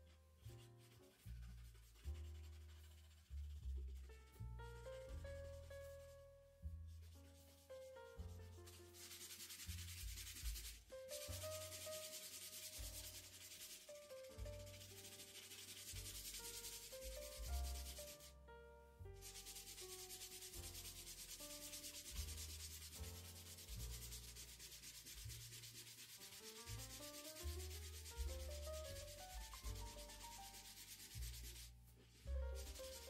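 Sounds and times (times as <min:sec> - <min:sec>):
soft background music: 0:00.0 - 0:33.0.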